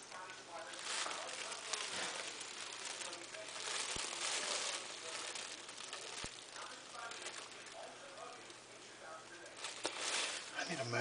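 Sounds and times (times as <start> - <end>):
plastic bag crinkling: 0.1 - 11.0.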